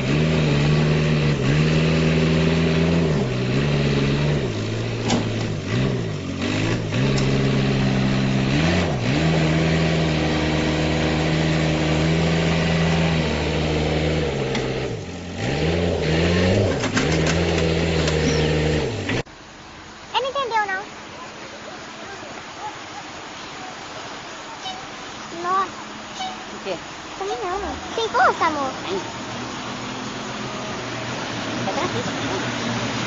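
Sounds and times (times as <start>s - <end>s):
heavy vehicle engine running: 0.0s - 33.0s.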